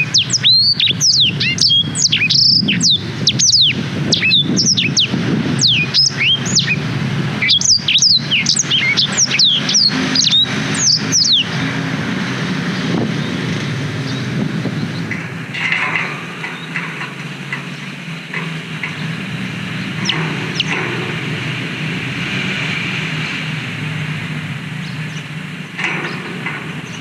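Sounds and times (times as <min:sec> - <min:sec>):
canary singing chirps and trills: 0:00.0 - 0:27.0
low background rumble: 0:00.0 - 0:27.0.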